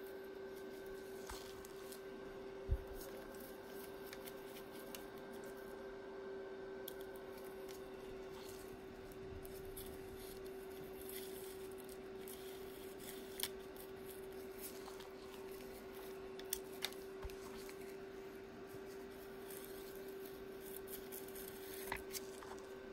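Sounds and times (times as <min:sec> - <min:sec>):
faint hum: 0:00.0 - 0:22.9.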